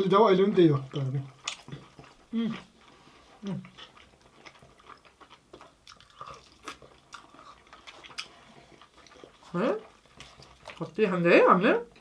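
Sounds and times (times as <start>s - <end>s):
close-up chewing: 0.4s - 11.1s.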